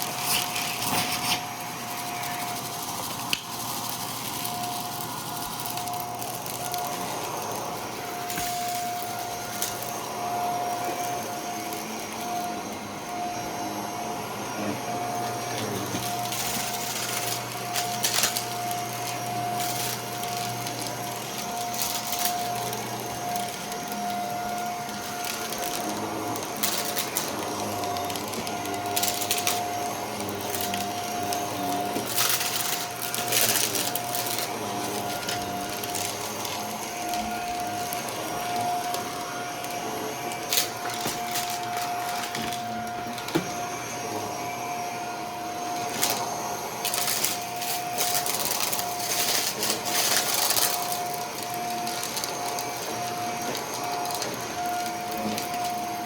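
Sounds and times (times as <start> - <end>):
vacuum cleaner whine: 0.0 - 56.0.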